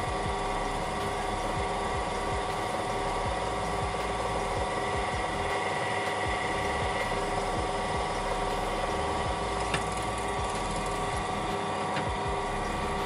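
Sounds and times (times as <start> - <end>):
drill press drilling metal: 0.1 - 13.0.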